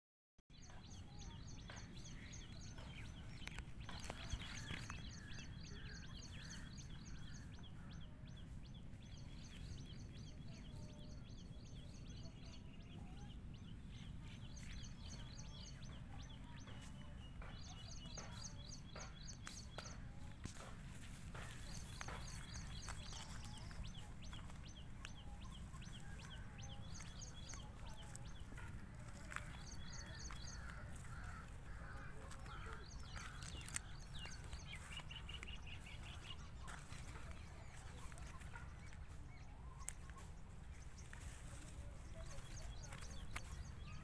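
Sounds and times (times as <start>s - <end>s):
small birds chirping: 0.5s - 44.0s.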